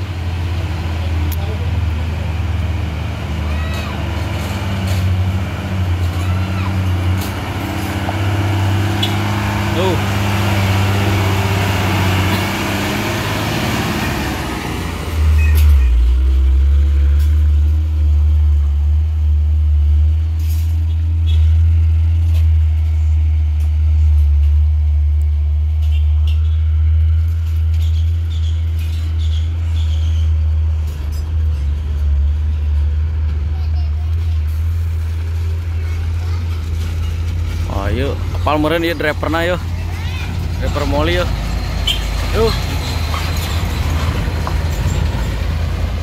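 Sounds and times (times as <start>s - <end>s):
dump truck diesel engine passing: 0.0s - 46.0s.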